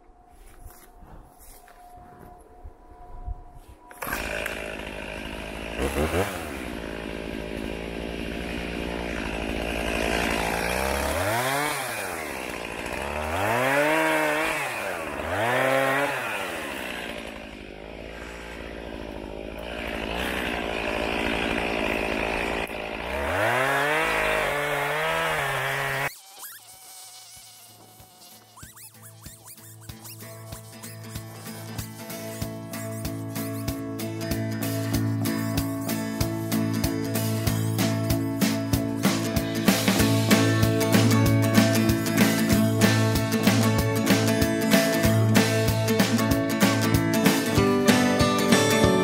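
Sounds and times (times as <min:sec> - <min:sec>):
chainsaw cutting brush: 0:03.9 - 0:49.0.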